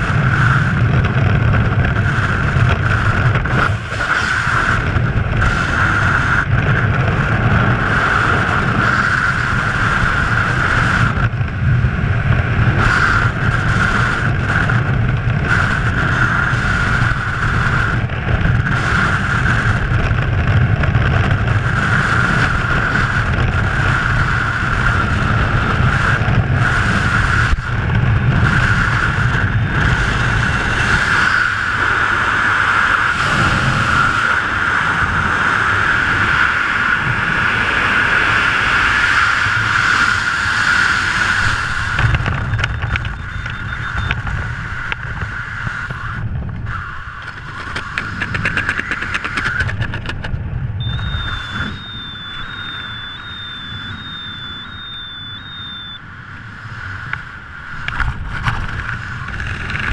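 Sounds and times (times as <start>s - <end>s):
wind roaring over microphone: 0.0s - 59.9s.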